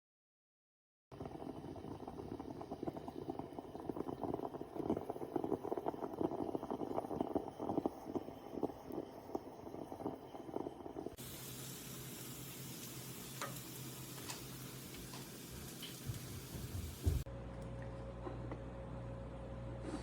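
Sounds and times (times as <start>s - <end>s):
coffee bubbling and gurgling: 1.1s - 18.1s.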